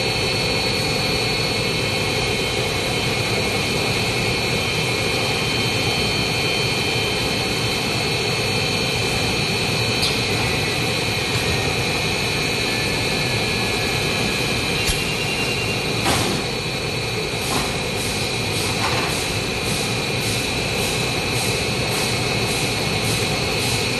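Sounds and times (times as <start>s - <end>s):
machine running with high whine: 0.0s - 23.9s.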